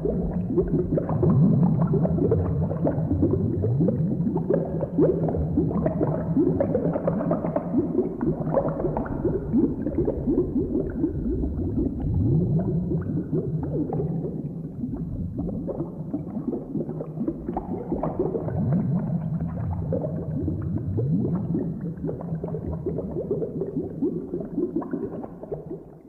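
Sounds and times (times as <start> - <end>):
thick liquid bubbling: 0.0 - 26.0.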